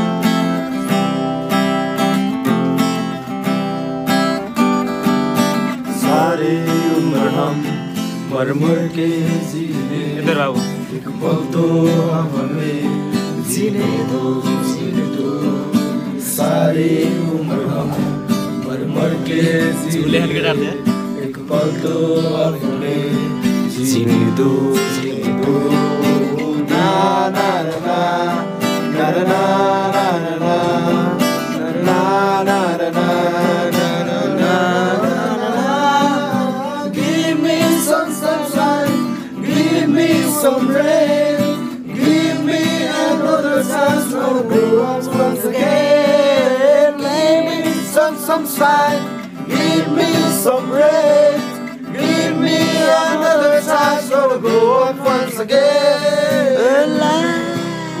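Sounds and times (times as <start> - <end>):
acoustic guitar strumming: 0.0 - 58.0
young men singing: 5.7 - 58.0.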